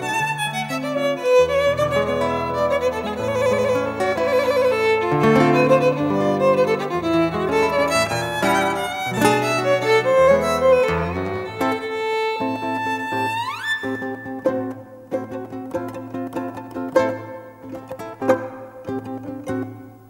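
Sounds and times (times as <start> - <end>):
violin playing tango melody: 0.0 - 19.2.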